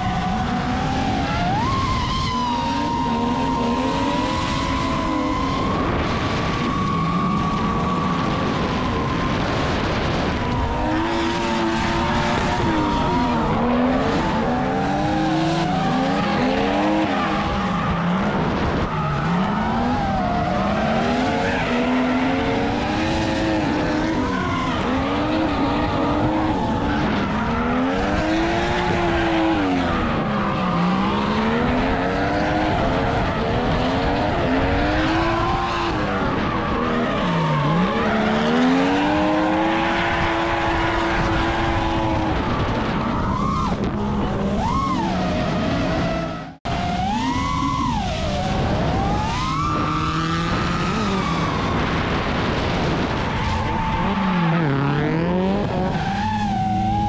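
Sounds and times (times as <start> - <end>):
car engine revving: 0.0 - 57.0
tyres squealing and skidding: 0.0 - 57.0.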